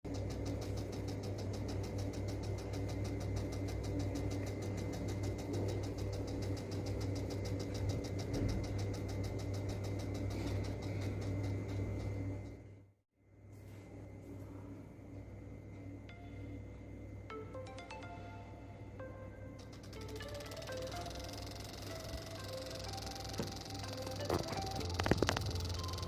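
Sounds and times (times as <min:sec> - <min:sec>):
small motor humming and ticking: 0:00.1 - 0:12.9, 0:15.7 - 0:26.0.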